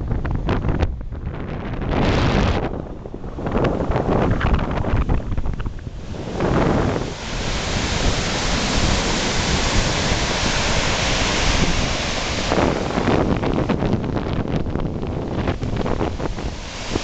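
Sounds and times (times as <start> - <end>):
wind buffeting microphone: 0.0 - 17.0
surf breaking on beach: 3.3 - 17.0.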